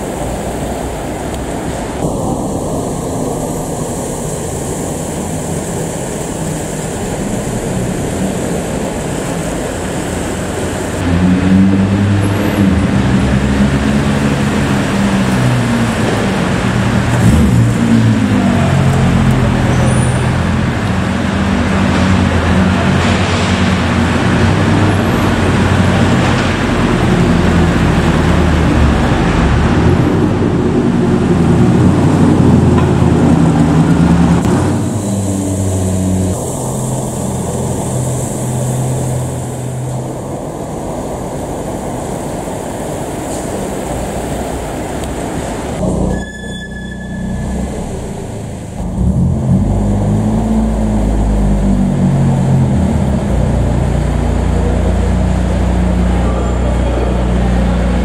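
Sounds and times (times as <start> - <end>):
road traffic engines: 0.0 - 58.0.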